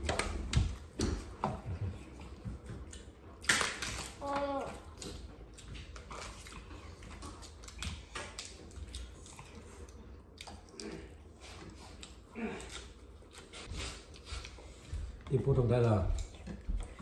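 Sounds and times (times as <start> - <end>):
people chewing and biting: 0.0 - 17.0.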